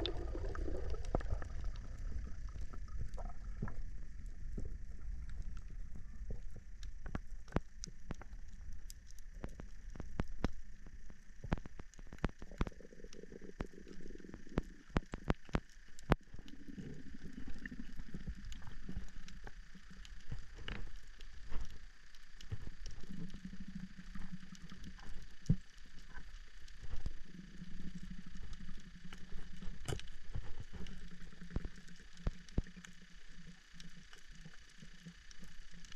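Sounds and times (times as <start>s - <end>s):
faint low hum: 0.0s - 35.9s
underwater clicks and crackles: 0.0s - 35.9s
underwater rumble of moving water: 0.0s - 35.9s.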